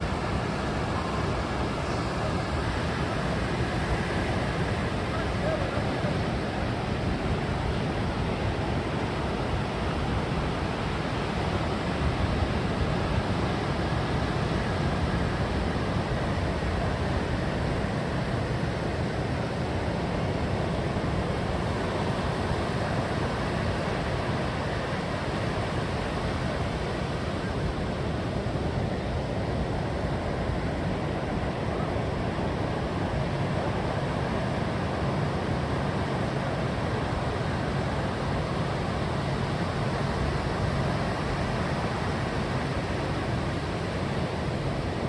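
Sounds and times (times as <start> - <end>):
sea surf rushing: 0.0 - 45.0
wind: 0.0 - 45.0.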